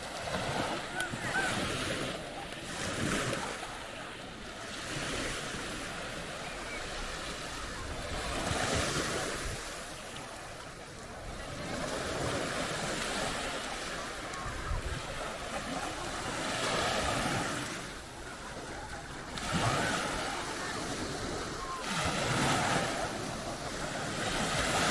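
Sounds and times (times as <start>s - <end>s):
sea waves breaking on beach: 0.0s - 24.9s.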